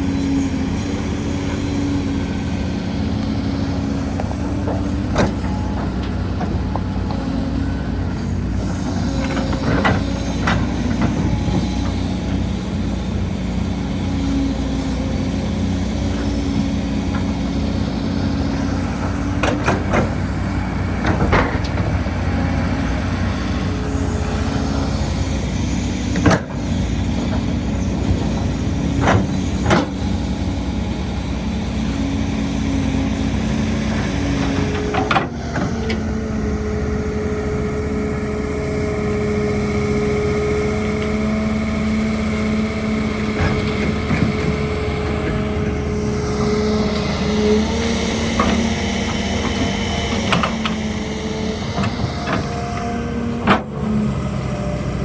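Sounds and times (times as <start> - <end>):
diesel engine drone: 0.0 - 55.0
machinery clanks and knocks: 0.2 - 12.5, 14.7 - 31.0, 32.3 - 36.3, 40.8 - 54.0.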